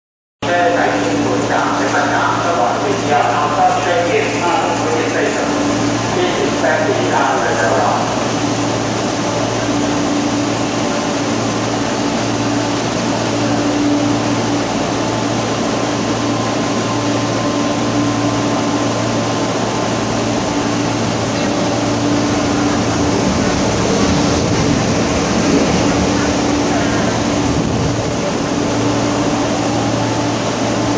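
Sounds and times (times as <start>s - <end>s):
steady low hum: 0.4s - 30.9s
locomotive engine passing: 0.5s - 30.9s
train wheels on rails: 0.7s - 30.9s.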